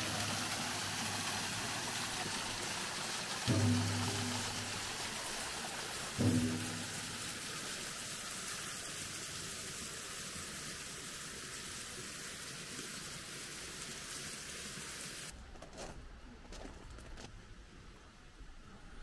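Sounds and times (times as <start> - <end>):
small waterfall splashing onto stones: 0.0 - 15.3.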